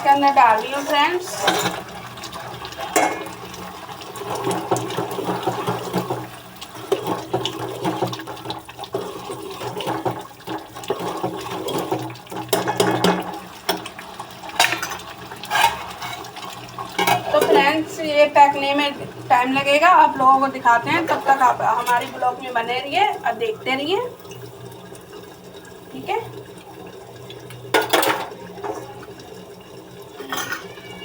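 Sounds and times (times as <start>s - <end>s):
food sizzling and bubbling in pan: 0.0s - 31.0s.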